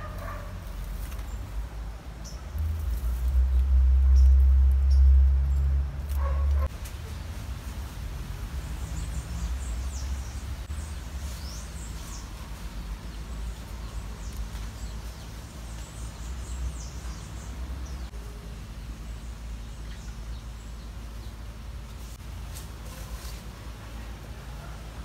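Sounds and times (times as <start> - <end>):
small birds chirping: 0.0 - 23.4
steady low rumble: 0.0 - 25.0.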